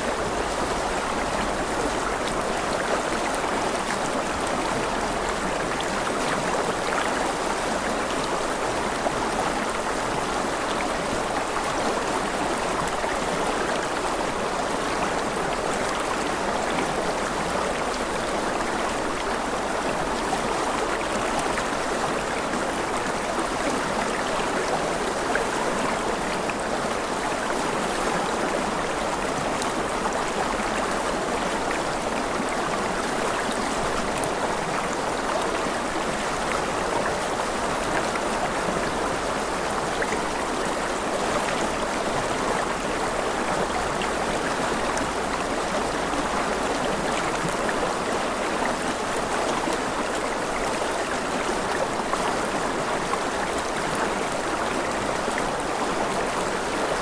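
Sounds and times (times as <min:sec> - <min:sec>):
water rushing and babbling: 0:00.0 - 0:57.0.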